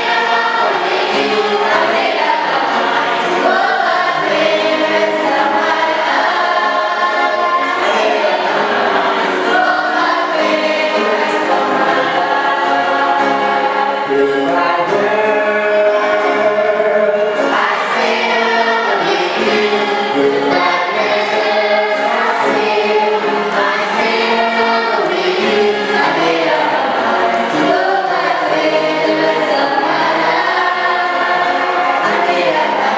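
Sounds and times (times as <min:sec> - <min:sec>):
choir singing a hymn: 0:00.0 - 0:32.9.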